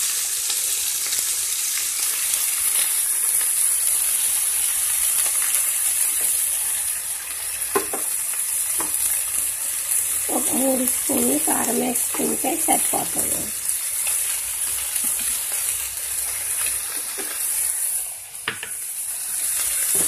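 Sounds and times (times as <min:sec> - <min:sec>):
fish sizzling in oil: 0:00.0 - 0:20.0.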